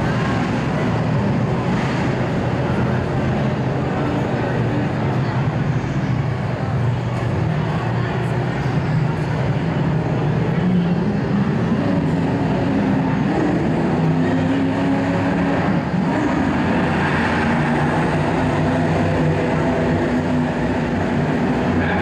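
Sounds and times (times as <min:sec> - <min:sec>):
racing truck engines: 0:00.0 - 0:22.0.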